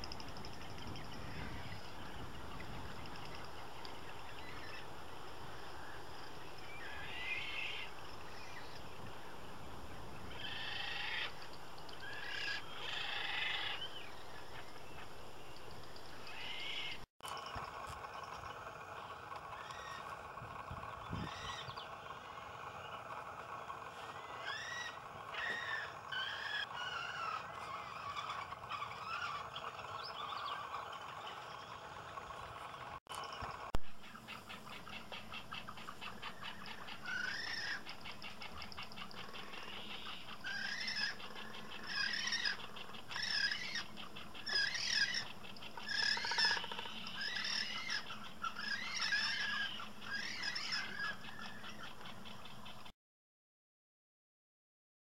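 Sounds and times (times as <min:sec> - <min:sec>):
bird calls: 0:00.0 - 0:09.3, 0:09.9 - 0:52.9.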